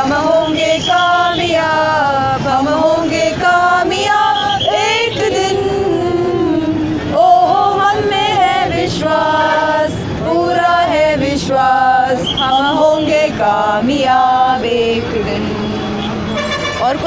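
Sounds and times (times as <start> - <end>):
group singing in unison: 0.0 - 16.0.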